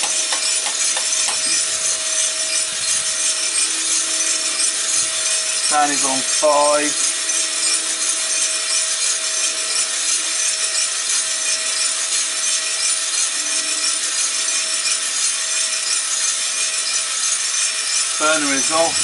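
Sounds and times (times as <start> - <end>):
coffee beans rattling in drum: 0.0 - 19.0.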